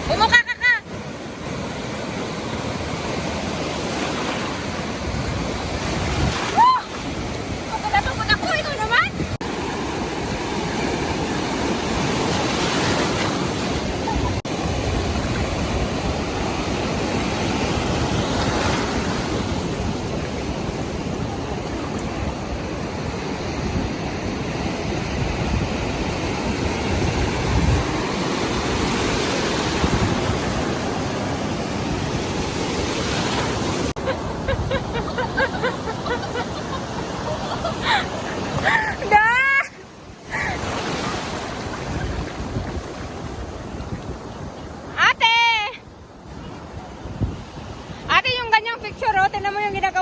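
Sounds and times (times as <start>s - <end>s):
ocean surf breaking on a beach: 0.0s - 50.0s.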